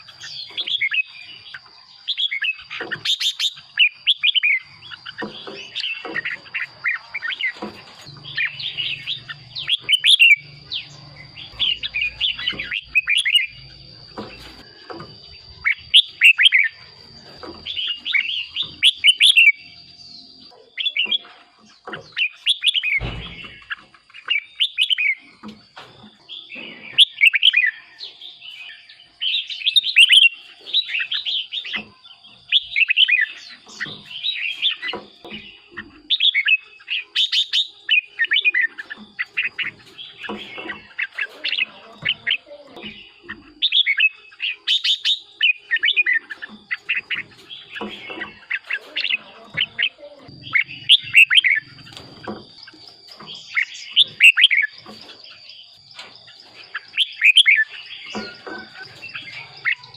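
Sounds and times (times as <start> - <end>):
bulbul singing: 0.0 - 59.9.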